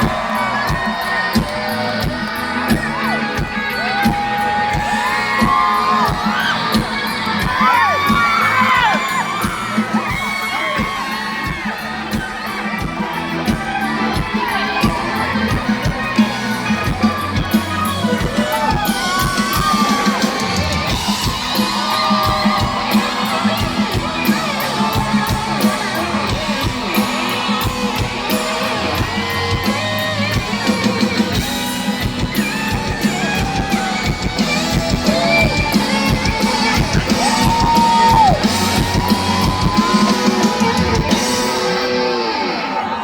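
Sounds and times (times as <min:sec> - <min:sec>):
drum beat: 0:00.0 - 0:42.3
crowd shouting and whooping: 0:00.0 - 0:43.0
electric guitar lines: 0:00.0 - 0:43.0.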